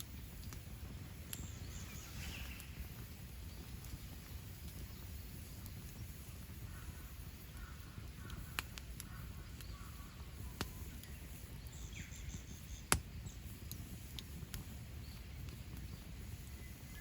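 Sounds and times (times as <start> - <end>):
campfire crackling and popping: 0.0 - 17.0
faint bird chirps: 1.2 - 13.6, 14.7 - 17.0.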